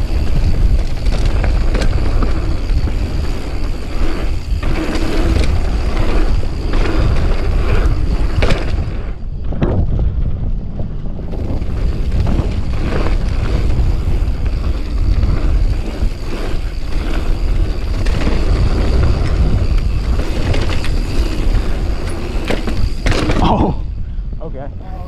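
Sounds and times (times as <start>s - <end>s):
mountain bike rattling: 0.0s - 24.2s
wind buffeting microphone: 0.0s - 25.0s.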